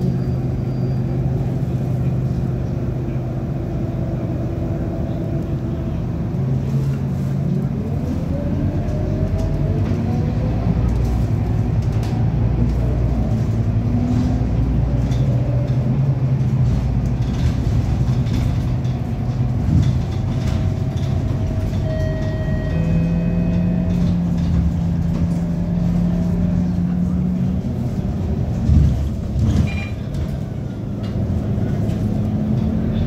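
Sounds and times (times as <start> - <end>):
bus engine droning: 0.0 - 33.0.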